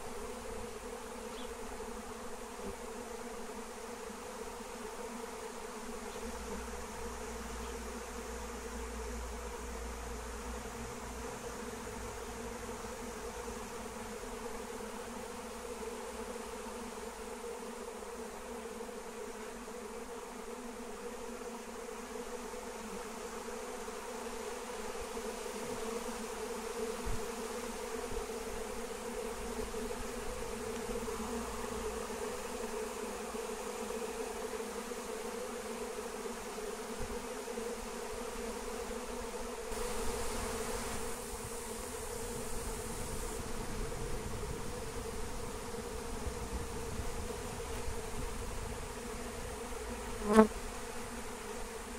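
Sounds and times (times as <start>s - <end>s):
bees buzzing: 0.0s - 51.9s.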